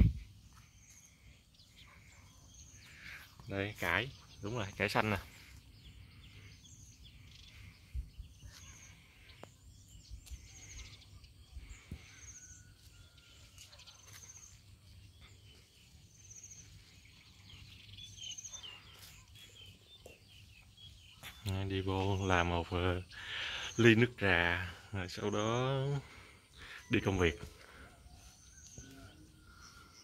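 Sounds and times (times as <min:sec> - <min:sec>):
birds twittering: 0:00.0 - 0:30.0.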